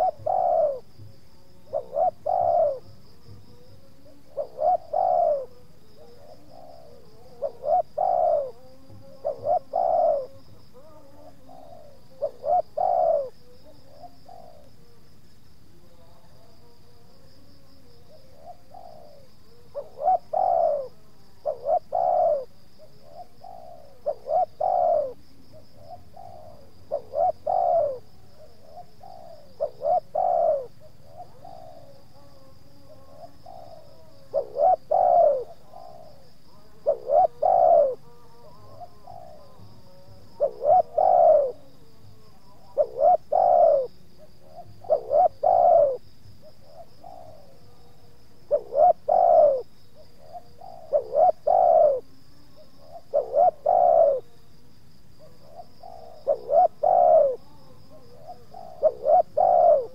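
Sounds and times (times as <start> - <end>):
dove cooing: 0.0 - 14.9, 17.8 - 54.4, 55.2 - 59.9.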